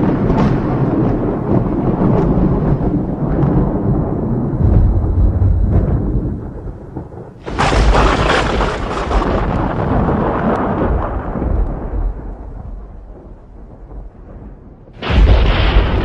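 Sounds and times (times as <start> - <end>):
lightning crack: 0.0 - 16.0
thunder rumbling: 0.0 - 16.0.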